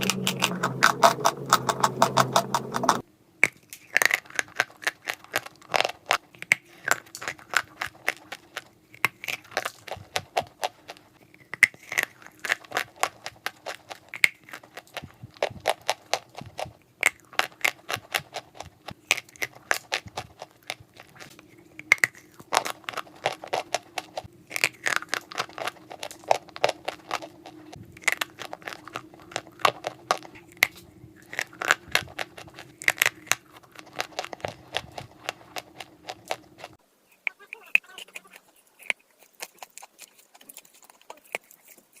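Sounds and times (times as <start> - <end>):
dry clay crunching: 0.0 - 42.0
faint steady hum: 0.0 - 42.0.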